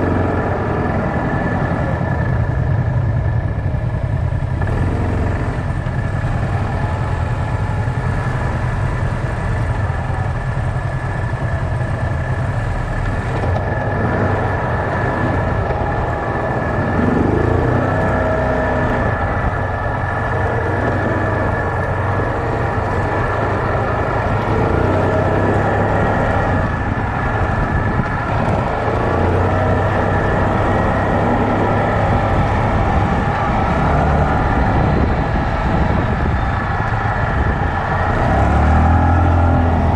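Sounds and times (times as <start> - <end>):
quad engine running: 0.0 - 39.9
steady high whine: 0.0 - 39.9.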